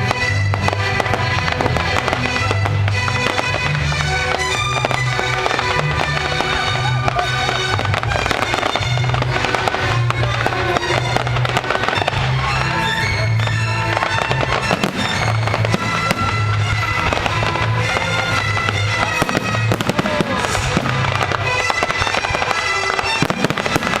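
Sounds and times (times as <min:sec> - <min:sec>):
fireworks bangs and crackles: 0:00.0 - 0:24.0
music with held notes: 0:00.0 - 0:24.0.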